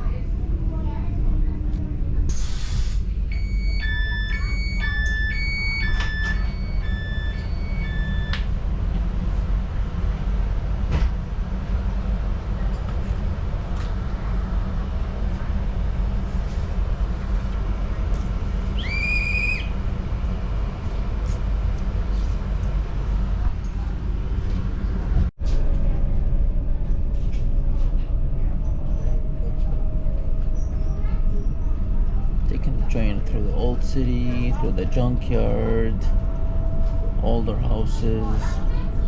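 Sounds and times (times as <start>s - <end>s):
train rumble: 0.0s - 39.0s.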